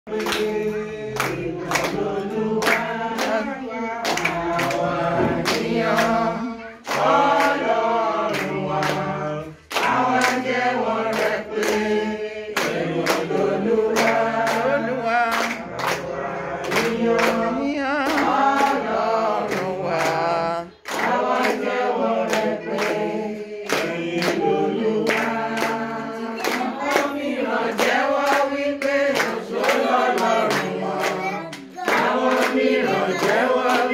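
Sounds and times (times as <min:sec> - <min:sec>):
hand claps: 0:00.1 - 0:33.9
women singing together: 0:00.1 - 0:33.9.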